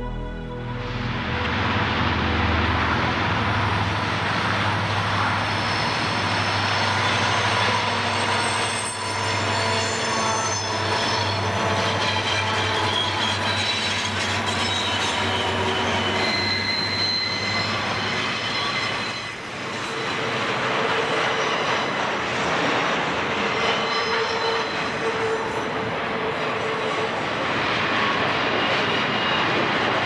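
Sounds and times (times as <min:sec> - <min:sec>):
wheel flanges squealing on rail: 0:03.9 - 0:30.0.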